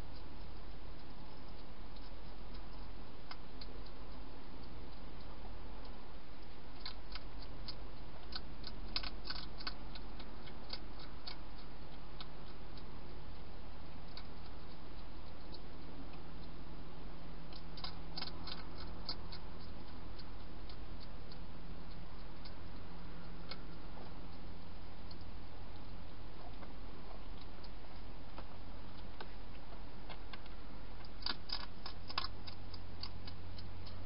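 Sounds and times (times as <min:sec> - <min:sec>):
hedgehog crunching dry food: 0:00.0 - 0:34.0
steady low hum: 0:00.0 - 0:34.0.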